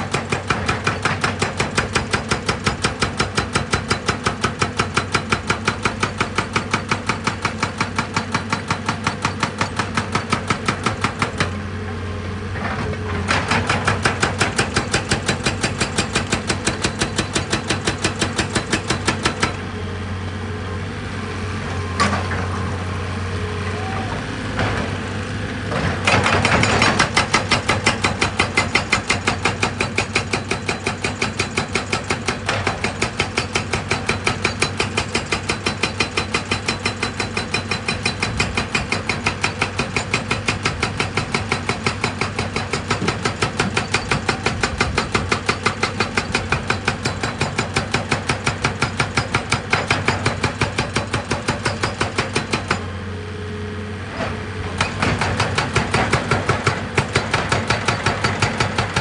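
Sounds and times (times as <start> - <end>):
machine hammering rock: 0.0 - 11.6, 13.3 - 19.6, 26.0 - 52.8, 54.8 - 59.0.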